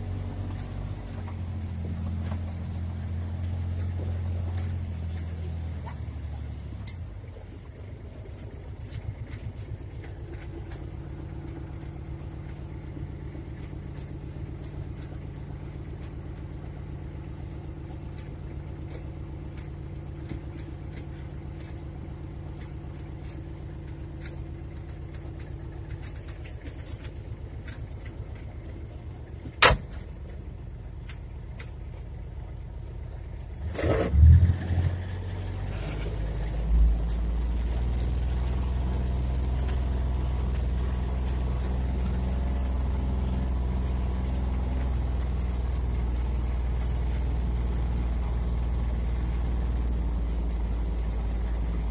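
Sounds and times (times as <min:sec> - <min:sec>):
vehicle engine running from cab: 0:00.0 - 0:51.9.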